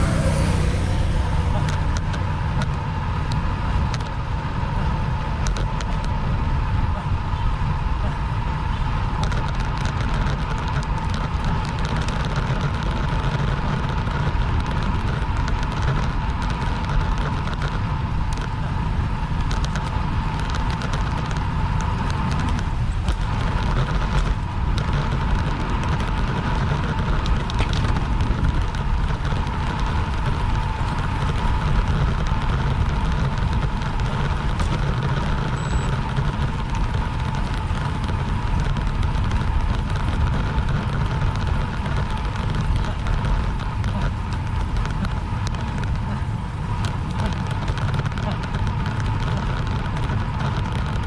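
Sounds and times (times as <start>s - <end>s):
road and tyre rumble: 0.0s - 51.0s
wind rushing over microphone: 0.0s - 51.0s
scattered clicks: 1.5s - 4.2s, 5.4s - 6.2s, 9.2s - 18.7s, 19.3s - 51.0s.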